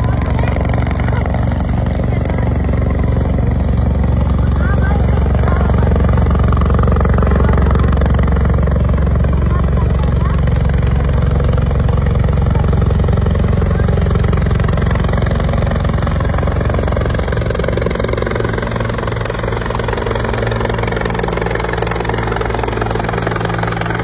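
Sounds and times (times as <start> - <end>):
helicopter rotor beating: 0.0 - 24.0.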